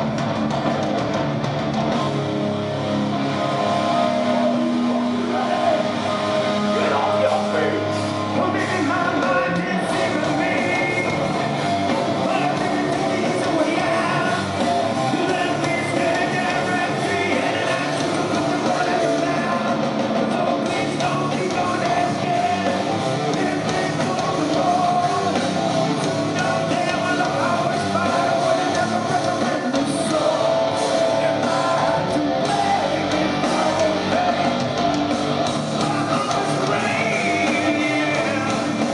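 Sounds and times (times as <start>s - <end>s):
distorted electric guitars: 0.0s - 38.9s
rock drums: 0.0s - 38.9s
person singing: 3.3s - 34.9s, 35.7s - 38.9s.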